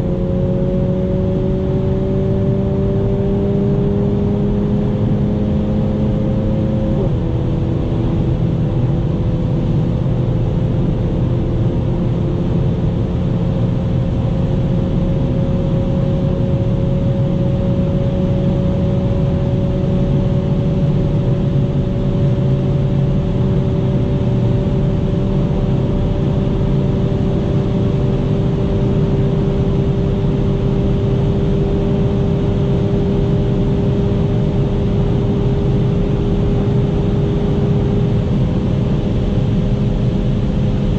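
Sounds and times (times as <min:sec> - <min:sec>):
car engine droning from cabin: 0:00.0 - 0:40.9
wind and tyre noise: 0:00.0 - 0:40.9.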